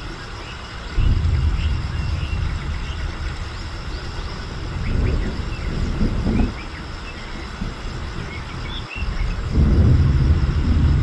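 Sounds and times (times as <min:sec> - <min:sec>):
small birds chirping: 0:00.0 - 0:11.0
steady low rumble: 0:00.8 - 0:11.0.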